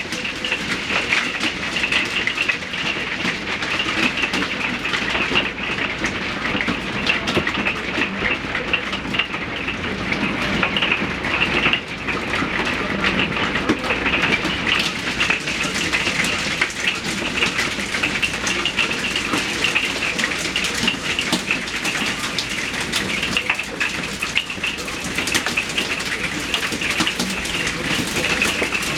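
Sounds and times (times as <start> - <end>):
hail pelting a hard surface: 0.0 - 28.9.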